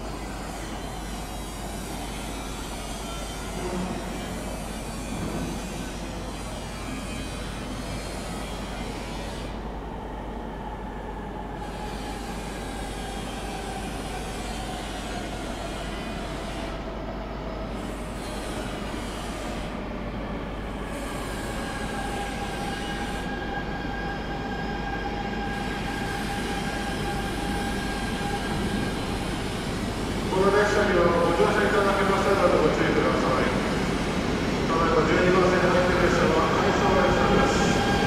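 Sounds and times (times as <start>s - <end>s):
train rolling with high whine: 0.0s - 38.0s.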